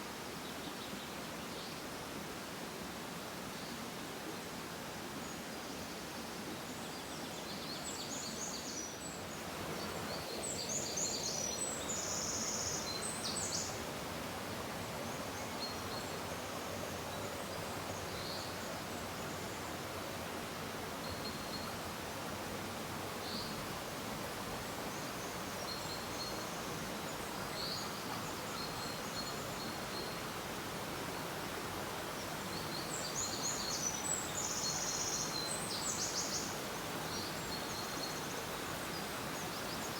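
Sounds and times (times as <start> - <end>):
rustling background hiss: 0.0 - 39.9.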